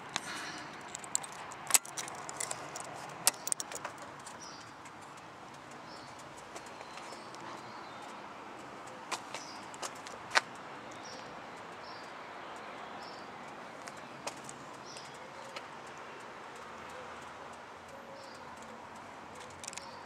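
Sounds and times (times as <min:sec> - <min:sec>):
sharp clicks: 0:00.1 - 0:20.0.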